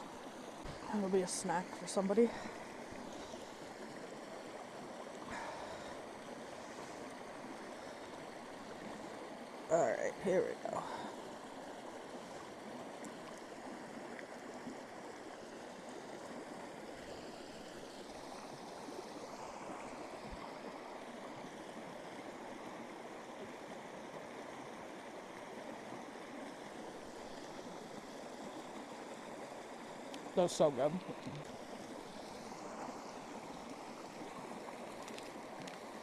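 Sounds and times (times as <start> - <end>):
running water rushing: 0.0 - 36.0.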